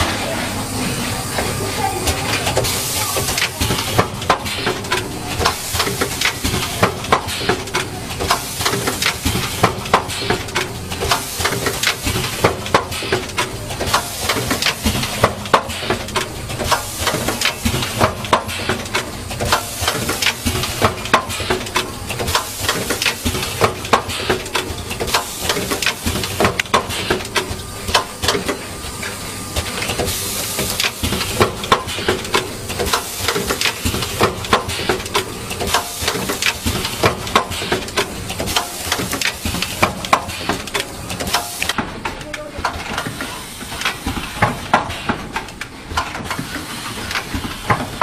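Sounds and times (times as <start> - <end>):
machine clacking rapidly: 1.4 - 28.6, 29.6 - 48.0.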